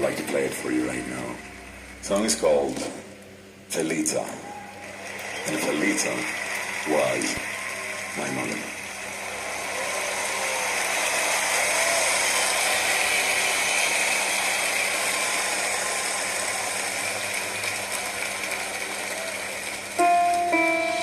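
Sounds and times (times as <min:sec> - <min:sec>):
audience applauding: 0:00.0 - 0:02.7, 0:04.6 - 0:21.0.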